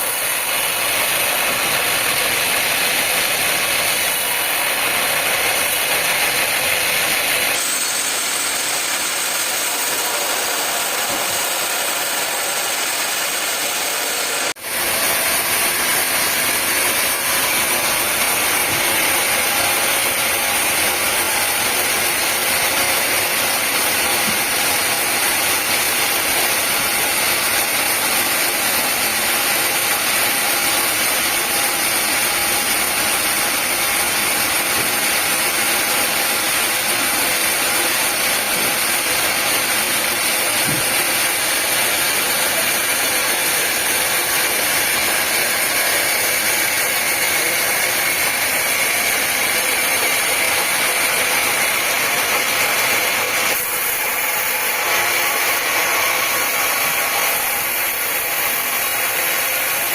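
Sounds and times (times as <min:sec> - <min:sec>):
sawmill machinery whirring: 0:00.0 - 0:59.9.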